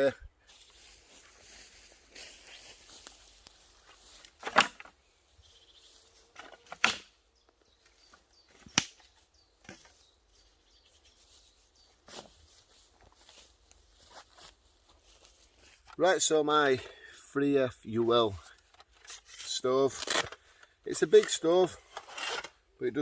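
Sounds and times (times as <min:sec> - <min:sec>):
faint outdoor background: 0:00.0 - 0:23.0.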